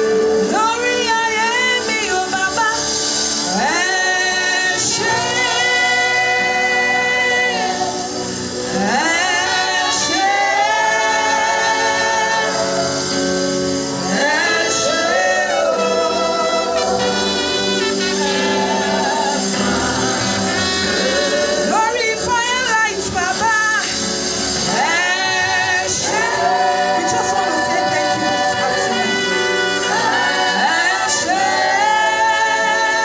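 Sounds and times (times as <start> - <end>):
gospel singing: 0.0 - 33.0
sustained instrumental accompaniment: 0.0 - 33.0.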